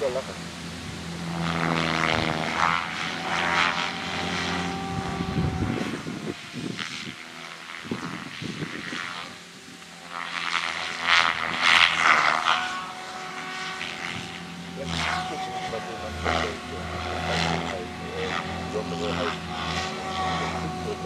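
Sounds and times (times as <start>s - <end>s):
rc helicopter rotor buzzing: 0.0s - 21.0s.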